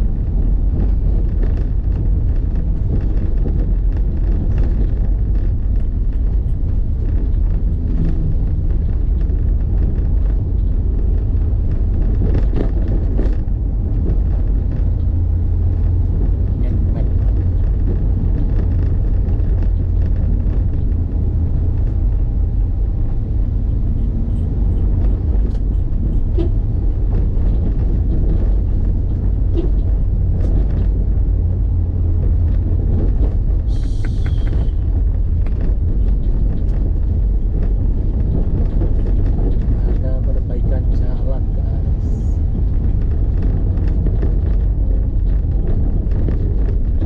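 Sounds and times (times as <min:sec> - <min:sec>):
vehicle ride rumble: 0:00.0 - 0:47.0.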